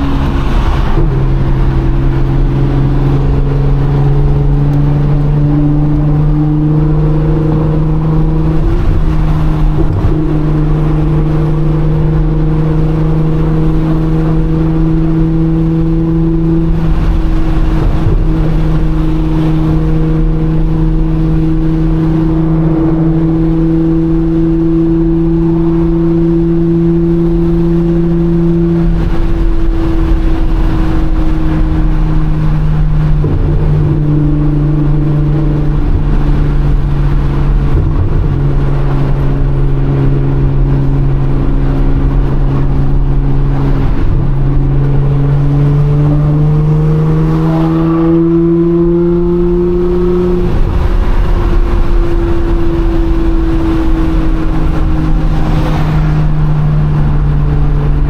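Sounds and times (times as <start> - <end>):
car engine droning in cabin: 0.0 - 58.0.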